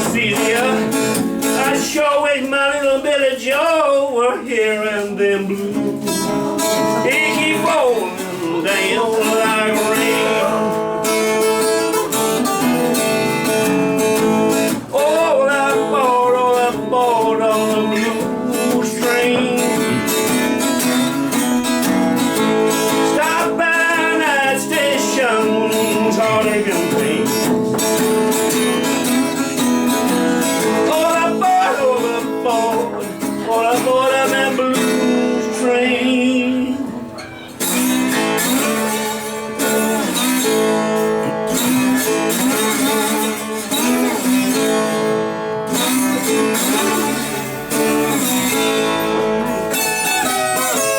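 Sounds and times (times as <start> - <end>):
bending lead guitar melody: 0.0 - 1.9, 4.9 - 50.9
acoustic guitar strumming blues: 0.0 - 50.9.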